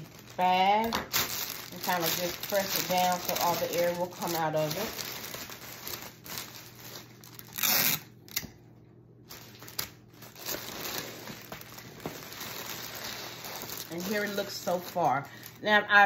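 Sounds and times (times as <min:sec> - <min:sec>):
cellophane crinkling: 0:00.0 - 0:08.4, 0:09.2 - 0:16.0.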